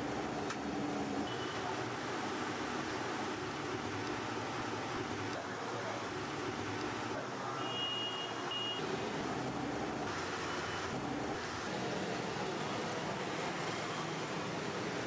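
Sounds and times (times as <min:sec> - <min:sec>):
traffic din: 0:00.0 - 0:15.0.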